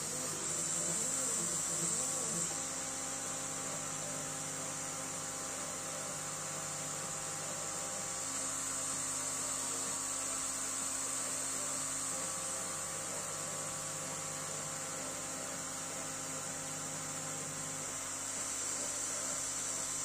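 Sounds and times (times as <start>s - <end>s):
cooling fan hiss: 0.0s - 20.0s
laser engraver running: 0.0s - 20.0s.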